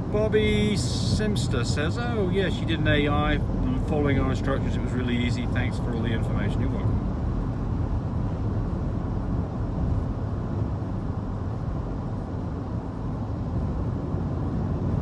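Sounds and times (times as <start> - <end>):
road and engine noise in car: 0.0 - 15.0.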